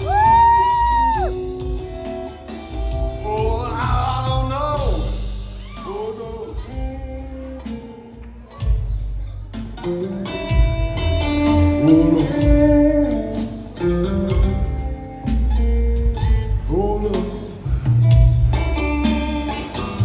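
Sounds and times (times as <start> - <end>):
bass guitar: 0.0 - 20.0
drums: 0.0 - 20.0
electric guitar bent notes: 1.2 - 20.0.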